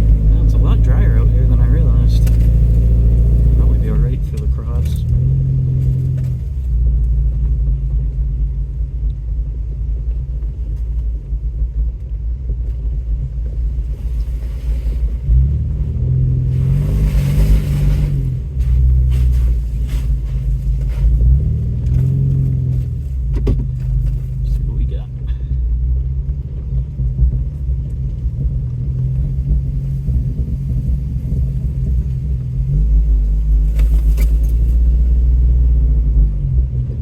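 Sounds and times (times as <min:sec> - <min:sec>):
body and suspension rattling: 0:00.0 - 0:37.0
off-road vehicle engine running: 0:00.0 - 0:37.0.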